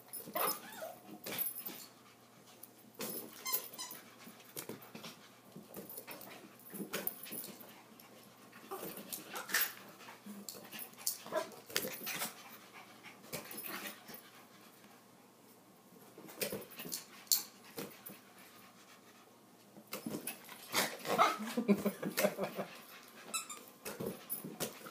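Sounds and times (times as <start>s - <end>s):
dogs panting and scuffling: 0.0s - 24.9s.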